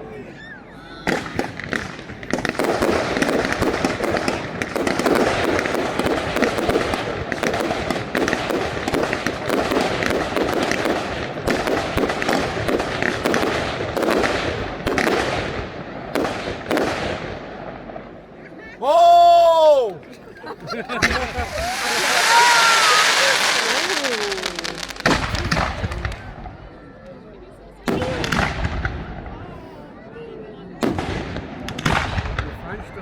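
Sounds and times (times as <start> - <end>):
fireworks bangs and crackling: 1.0 - 18.2, 20.8 - 26.8, 27.8 - 29.5, 30.8 - 33.0.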